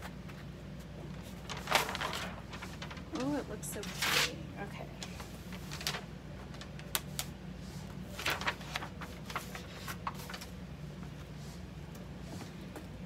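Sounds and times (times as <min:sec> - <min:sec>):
paper crinkling and rustling: 0:00.0 - 0:11.3.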